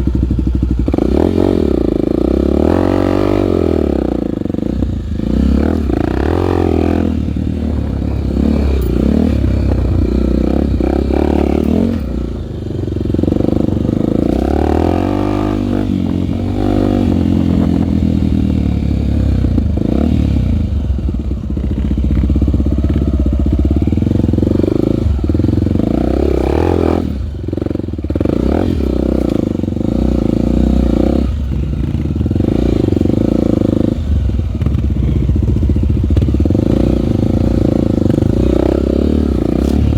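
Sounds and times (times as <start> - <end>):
trail bike engine revving: 0.0 - 39.9.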